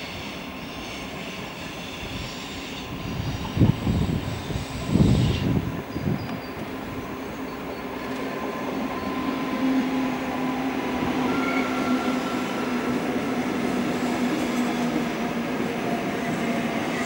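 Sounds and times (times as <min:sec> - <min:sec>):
train low hum: 0:00.0 - 0:17.0
train wheels rumbling on rail: 0:00.0 - 0:17.0.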